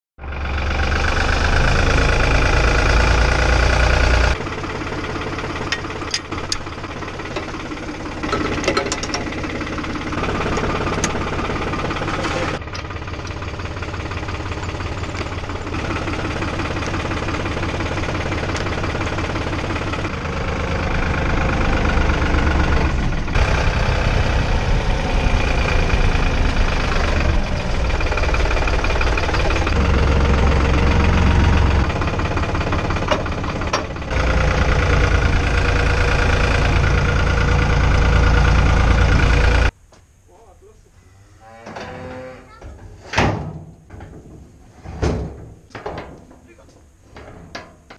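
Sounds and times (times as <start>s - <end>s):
diesel tractor engine running: 0.2s - 39.8s.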